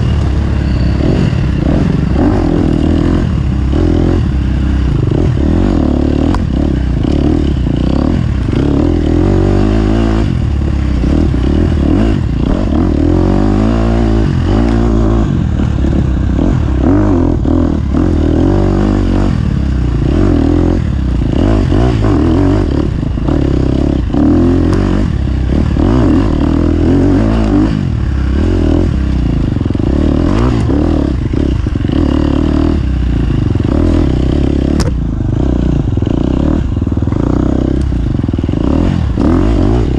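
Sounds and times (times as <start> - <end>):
racing engine revving: 0.0 - 35.0.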